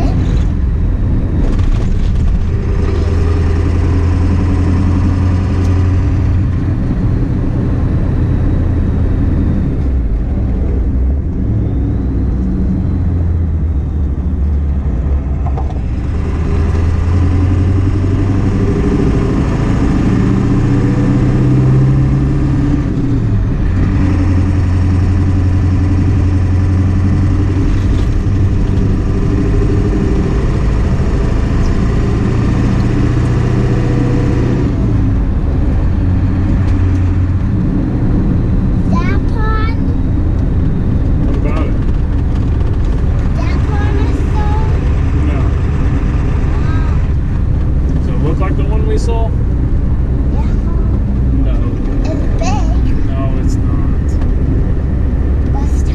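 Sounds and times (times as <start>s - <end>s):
pickup engine running: 0.0s - 55.9s.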